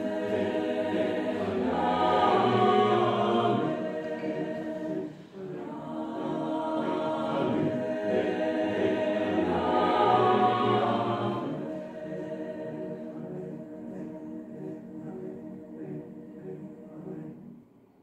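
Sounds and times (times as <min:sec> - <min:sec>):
choir singing a cappella: 0:00.0 - 0:17.8.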